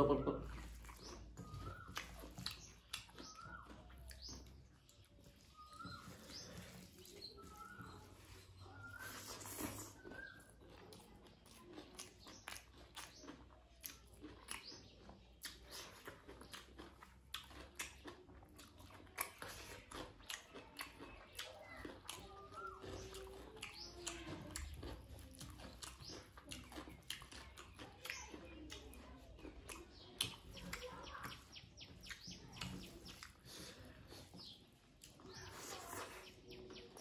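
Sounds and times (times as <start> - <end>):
person chewing and lip-smacking: 0.1 - 37.0.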